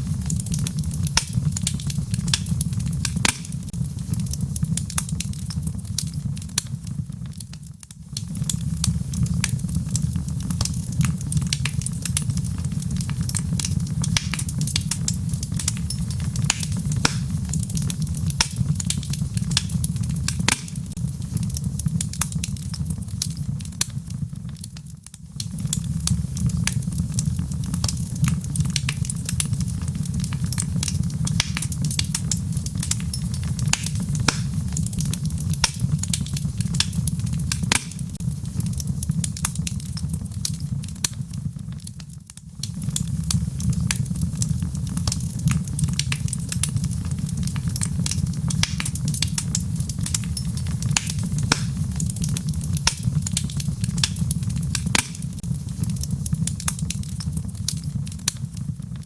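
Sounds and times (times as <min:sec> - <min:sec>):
fire flames rumbling: 0:00.0 - 0:59.0
logs crackling and popping: 0:00.0 - 0:59.0.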